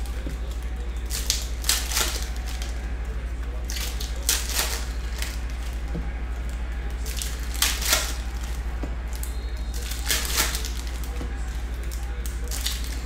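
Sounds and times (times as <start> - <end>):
foil wrappers crinkling and tearing: 0.0 - 13.0
steady low hum: 0.0 - 13.0.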